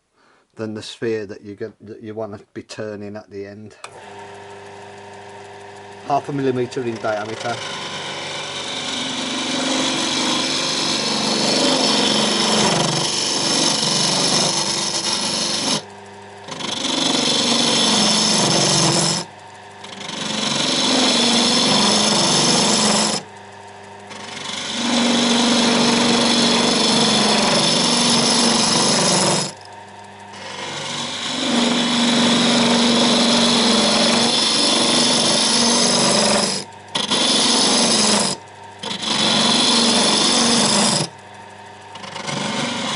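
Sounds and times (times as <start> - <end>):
lathe tool scraping wood: 3.8 - 42.9
wood lathe humming: 3.8 - 42.9.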